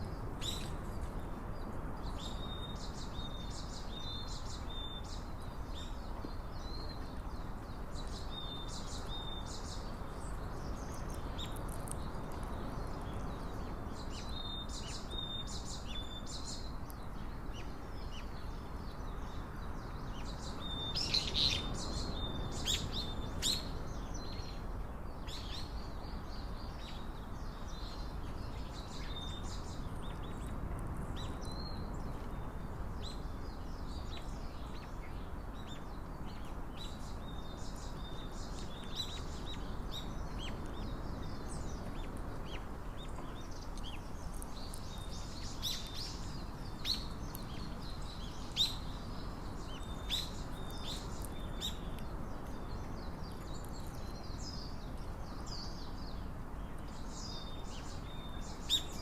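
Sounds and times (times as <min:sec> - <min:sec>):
low background noise: 0:00.0 - 0:59.0
small birds chirping: 0:00.0 - 0:59.0.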